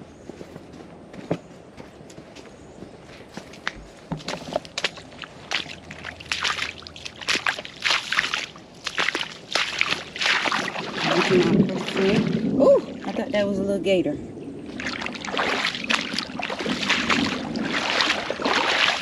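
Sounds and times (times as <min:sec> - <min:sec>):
footsteps sloshing through water: 0:01.8 - 0:13.3, 0:14.6 - 0:19.0.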